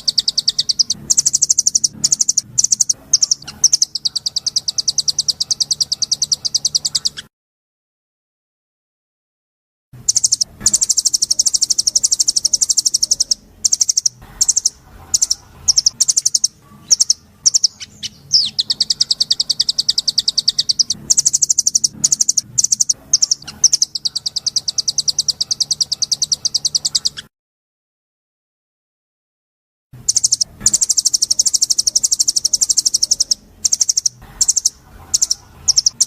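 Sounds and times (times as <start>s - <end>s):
bird chirps: 0.0s - 7.3s, 10.0s - 27.3s, 30.0s - 36.0s
songbird trilling: 0.0s - 7.3s, 10.1s - 27.3s, 30.0s - 36.0s.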